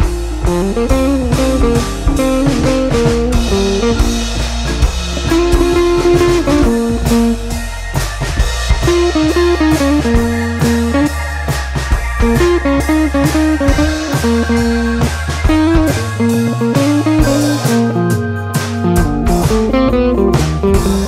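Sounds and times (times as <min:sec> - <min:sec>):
drum kit beat: 0:00.0 - 0:21.0
guitar: 0:00.0 - 0:21.0.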